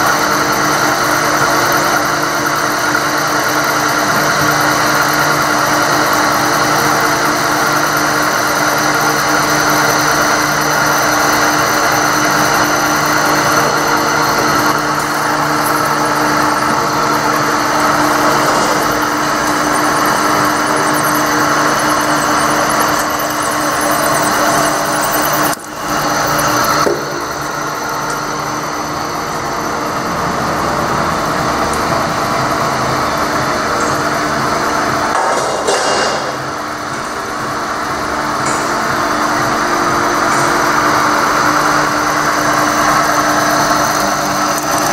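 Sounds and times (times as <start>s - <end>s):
milling machine cutting metal: 0.0s - 44.9s.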